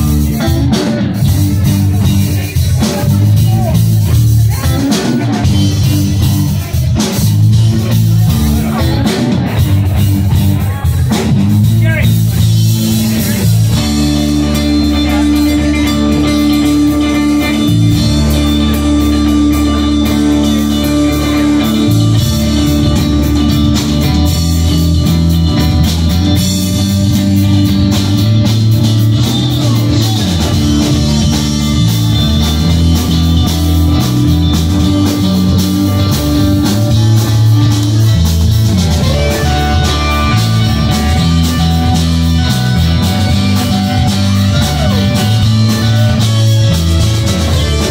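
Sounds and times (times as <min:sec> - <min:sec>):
bass line: 0:00.0 - 0:47.9
drums: 0:00.0 - 0:47.9
electric guitars: 0:00.0 - 0:47.9.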